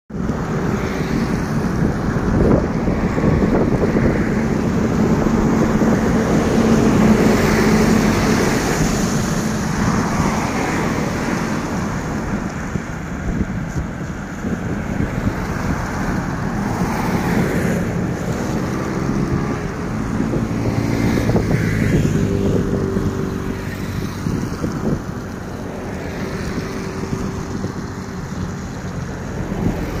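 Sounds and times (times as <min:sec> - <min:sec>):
highway traffic passing: 0:00.1 - 0:30.0
wind on microphone: 0:00.1 - 0:30.0.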